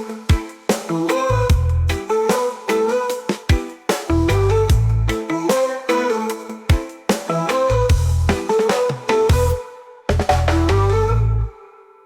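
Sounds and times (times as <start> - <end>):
instrumental reggae music: 0.0 - 11.5.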